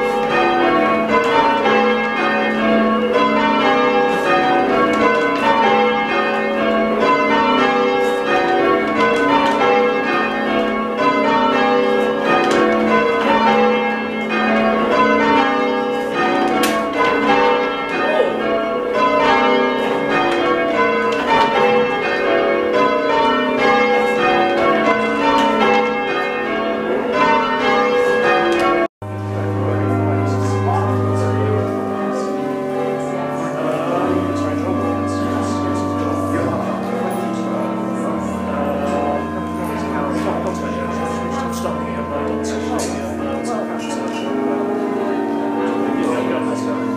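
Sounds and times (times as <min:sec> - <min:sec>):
church bells ringing changes: 0:00.0 - 0:46.9.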